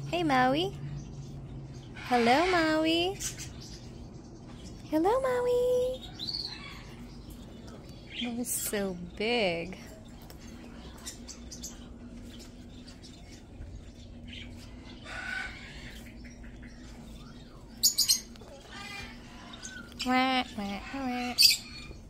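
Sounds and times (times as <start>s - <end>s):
low hum: 0.0s - 22.0s
parakeets chirping and squawking: 0.1s - 22.0s.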